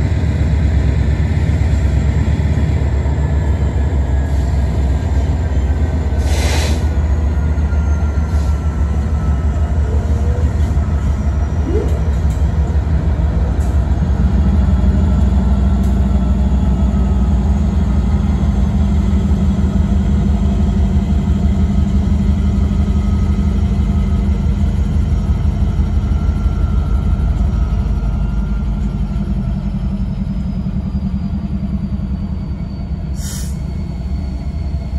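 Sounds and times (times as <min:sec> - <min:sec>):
diesel locomotive engine rumble: 0:00.0 - 0:34.9.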